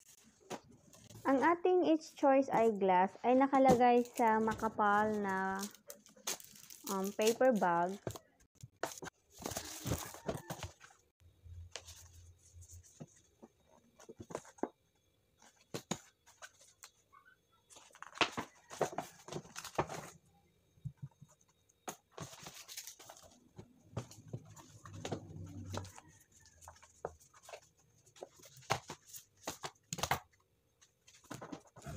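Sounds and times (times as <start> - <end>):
paper and cardboard rustling: 3.4 - 11.0, 11.7 - 14.8, 15.4 - 17.1, 17.7 - 20.2, 20.9 - 31.9.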